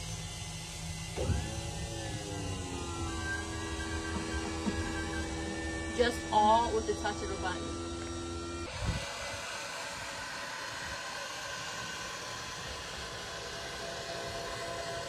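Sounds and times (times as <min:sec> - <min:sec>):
electric actuator whirring: 0:00.0 - 0:15.0.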